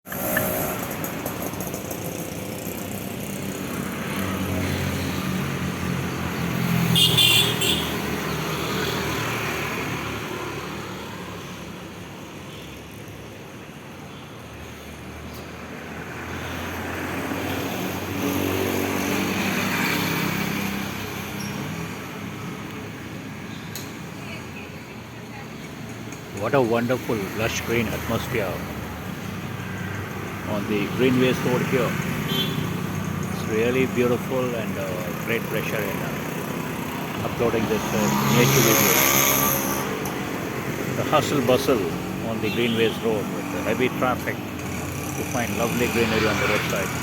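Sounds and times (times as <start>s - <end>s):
vehicles passing by: 0.0s - 47.0s.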